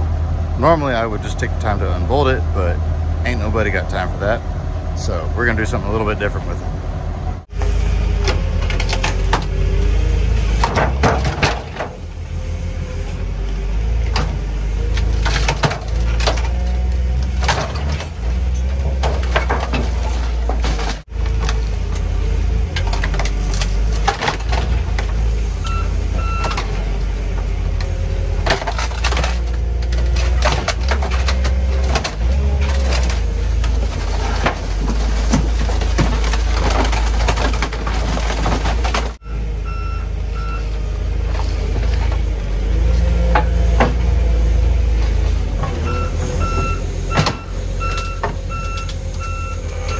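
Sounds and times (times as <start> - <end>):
heavy machine engine running: 0.0 - 49.9
metal bangs clanks and creaks: 7.5 - 13.3, 13.9 - 39.2, 40.6 - 49.9.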